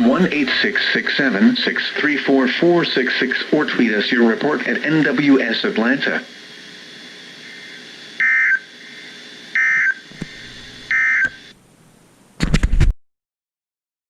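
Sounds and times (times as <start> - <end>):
radio crackle: 0.0 - 11.6.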